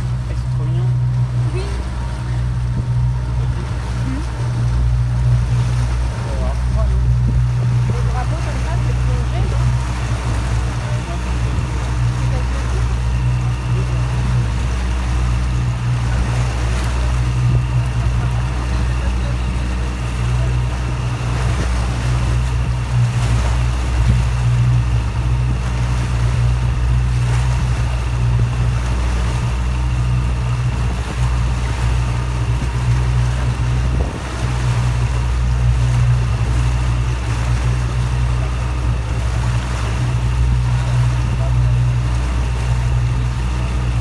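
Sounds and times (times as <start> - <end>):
motor boat engine drone: 0.0 - 44.0.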